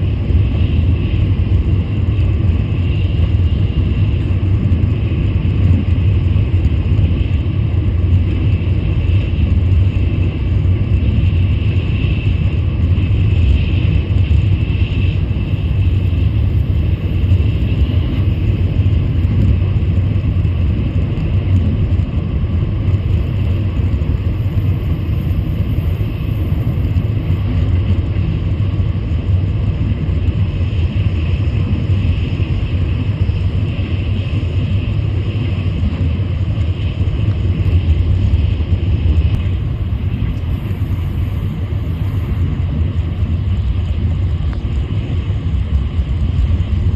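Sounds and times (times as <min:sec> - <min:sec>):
high-speed train rumble: 0:00.0 - 0:46.9.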